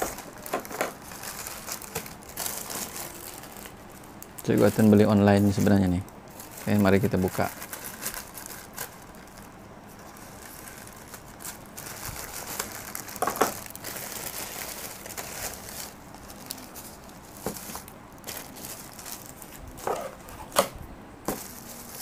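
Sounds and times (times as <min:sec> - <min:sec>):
bubble wrap crinkling: 0:00.0 - 0:20.6, 0:21.2 - 0:22.0
plastic mailer crinkling: 0:00.0 - 0:20.6, 0:21.3 - 0:22.0.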